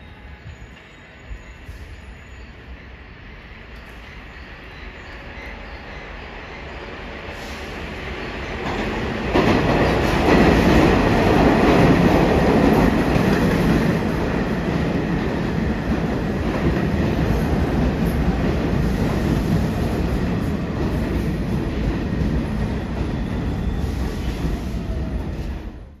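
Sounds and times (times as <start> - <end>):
subway train rumbling past: 0.0 - 26.0.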